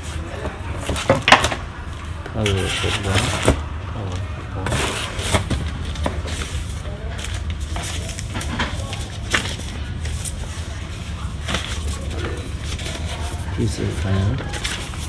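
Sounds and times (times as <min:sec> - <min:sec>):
paper rustling: 0:00.0 - 0:15.0
steady low hum: 0:00.0 - 0:15.0.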